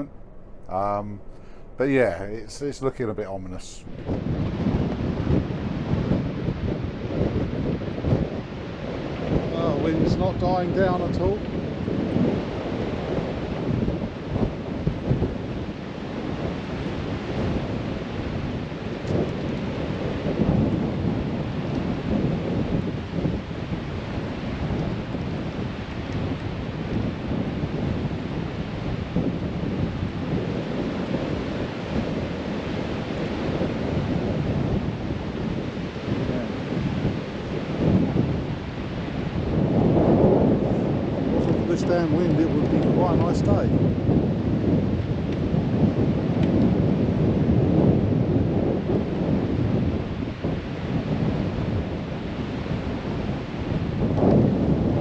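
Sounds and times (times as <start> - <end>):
storm wind buffeting microphone: 0.0 - 55.0.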